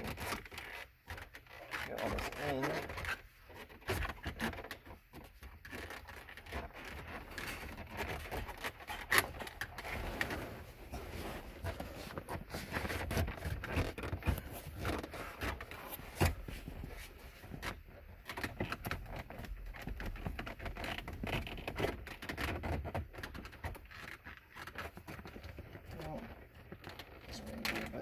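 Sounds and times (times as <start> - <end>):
plastic trim scraping and rustling: 0.0 - 28.0.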